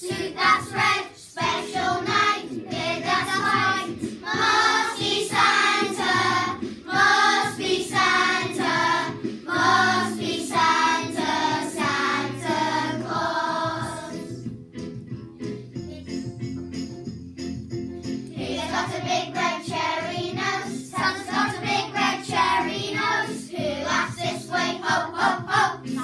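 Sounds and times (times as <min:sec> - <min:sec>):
children's choir singing: 0:00.0 - 0:14.4, 0:18.3 - 0:26.0
instrumental accompaniment: 0:00.1 - 0:23.2.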